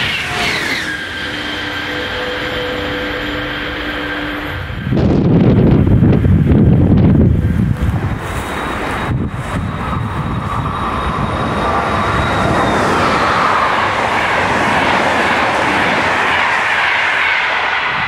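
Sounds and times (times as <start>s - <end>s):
high train whine: 0.0s - 18.0s
train rushing past: 0.0s - 18.0s.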